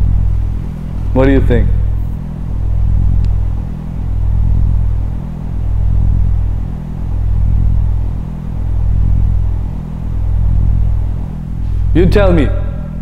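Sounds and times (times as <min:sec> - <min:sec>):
deep bass drone: 0:00.0 - 0:13.0.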